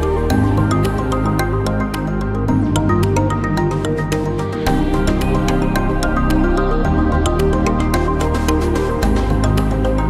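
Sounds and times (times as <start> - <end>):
calm electronic music: 0.0 - 10.0.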